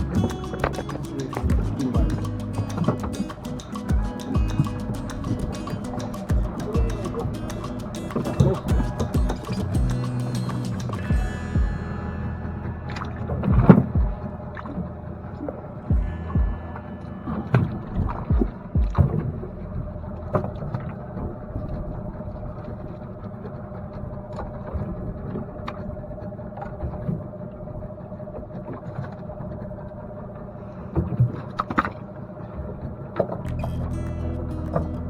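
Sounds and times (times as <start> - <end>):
boat engine rumble: 0.0 - 30.9, 33.5 - 35.0.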